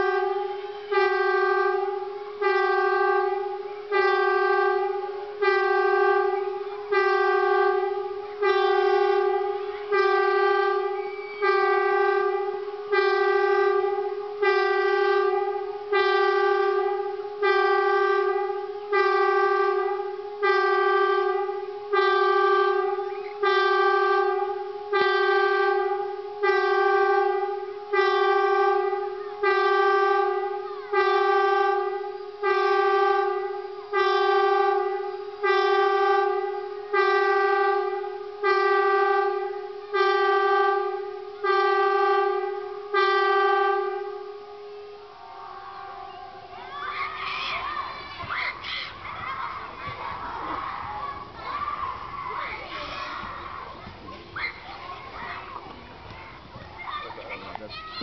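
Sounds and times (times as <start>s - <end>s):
warning siren blasts: 0.0s - 54.7s.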